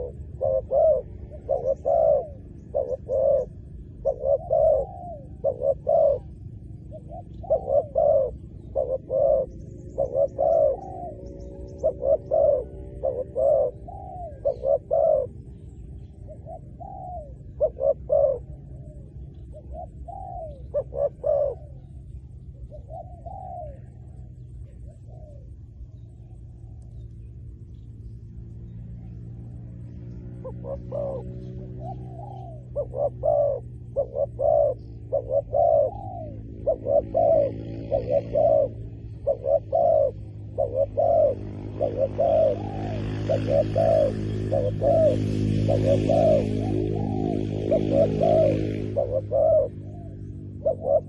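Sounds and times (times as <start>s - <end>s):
dove cooing: 0.0s - 51.0s.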